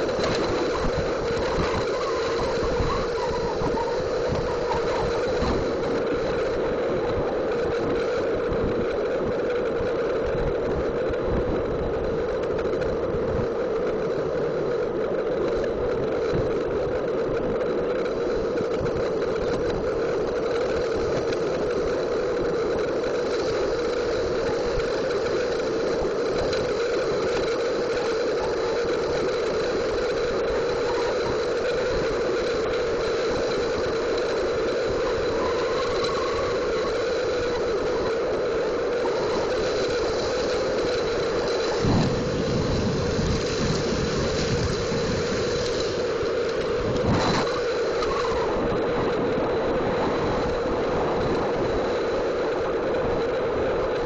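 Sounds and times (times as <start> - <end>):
skateboard wheels rolling on asphalt: 0.0 - 54.0.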